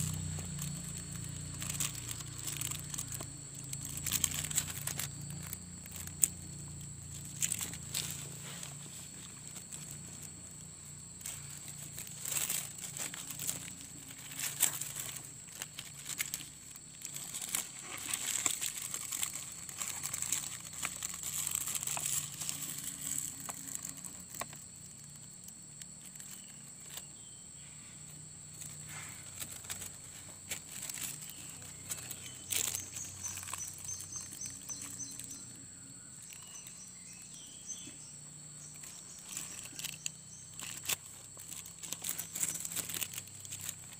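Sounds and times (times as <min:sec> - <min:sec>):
plastic tape crinkling: 0:00.0 - 0:27.0, 0:28.5 - 0:35.6, 0:38.7 - 0:43.9.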